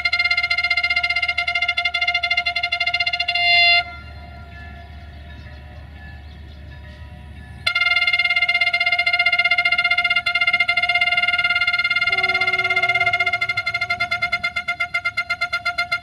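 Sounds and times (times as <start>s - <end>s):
stuttering train horn blast: 0.0s - 6.6s, 7.4s - 16.0s
low rumble of railcar: 0.0s - 16.0s.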